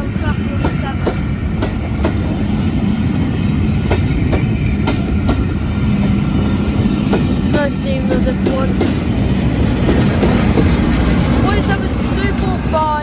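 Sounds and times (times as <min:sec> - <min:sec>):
train rumble and hum: 0:00.0 - 0:13.0
train wheels clacking on rails: 0:00.0 - 0:13.0.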